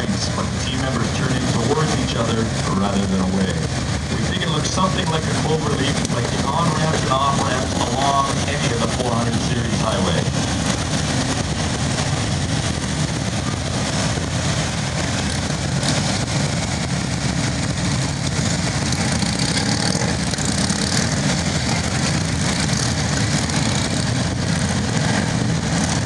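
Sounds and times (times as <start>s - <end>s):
motorcycle engines at low speed: 0.0s - 26.0s.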